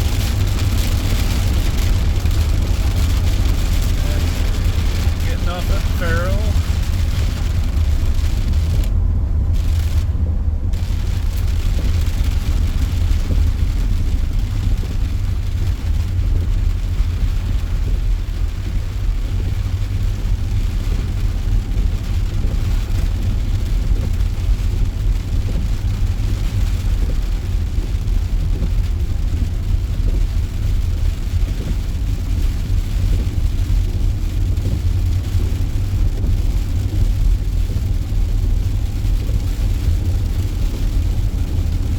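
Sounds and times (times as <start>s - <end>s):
car road noise: 0.0s - 41.9s.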